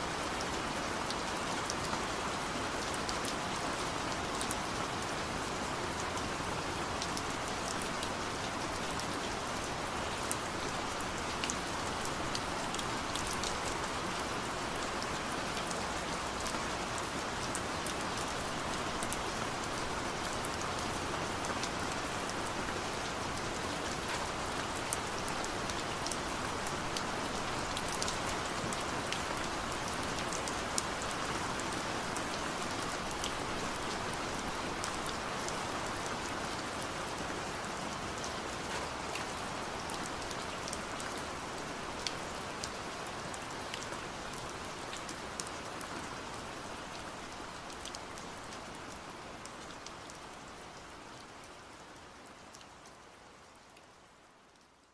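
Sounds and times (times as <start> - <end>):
rain hiss: 0.0 - 53.8
raindrops ticking on surface: 0.1 - 54.9.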